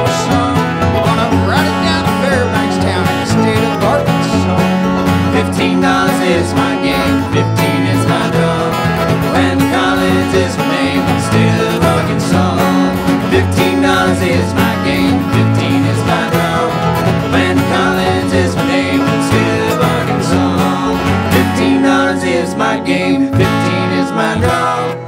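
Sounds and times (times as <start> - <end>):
acoustic guitars: 0.0 - 25.0
banjo: 0.0 - 25.0
dobro: 0.0 - 25.0
mandolin: 0.0 - 25.0
upright bass: 0.0 - 25.0.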